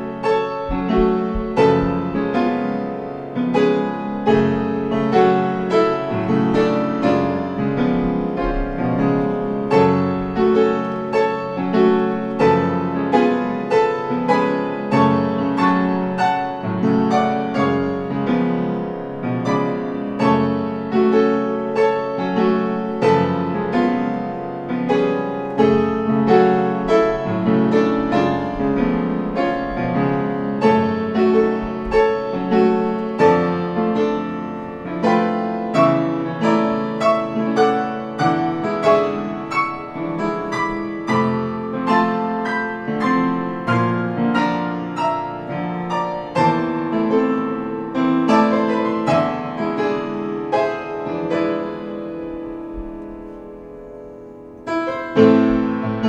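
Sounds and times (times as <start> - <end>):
piano chords: 0.0 - 56.0.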